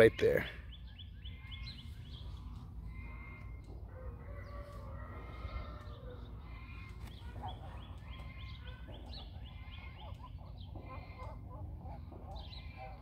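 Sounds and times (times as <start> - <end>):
birds chirping and clucking: 0.0 - 13.0
steady low rumble: 0.6 - 13.0.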